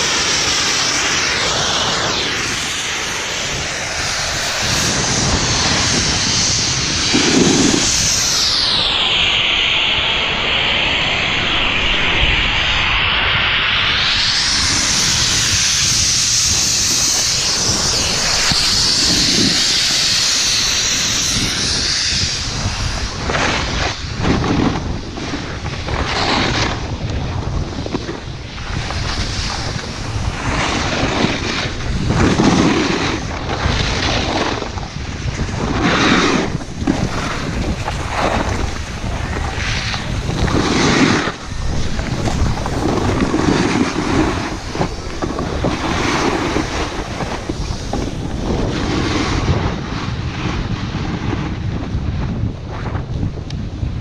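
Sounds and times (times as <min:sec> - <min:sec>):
snowboard scraping through snow: 0:00.0 - 0:53.9
wind rushing over microphone: 0:00.0 - 0:54.0.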